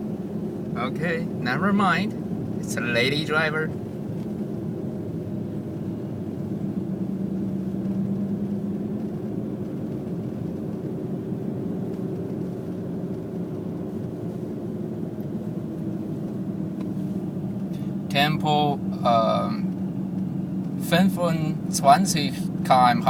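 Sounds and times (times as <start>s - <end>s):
car engine humming: 0.0s - 23.0s
tyre and road noise: 0.0s - 23.0s.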